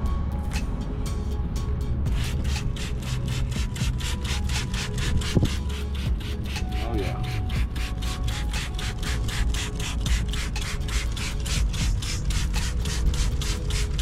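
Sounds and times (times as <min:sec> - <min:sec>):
hand scrubbing wet metal wheel: 0:02.1 - 0:14.0.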